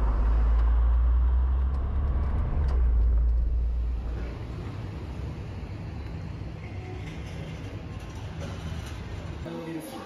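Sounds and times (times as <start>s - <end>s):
small van engine rumbling: 0.0s - 9.4s.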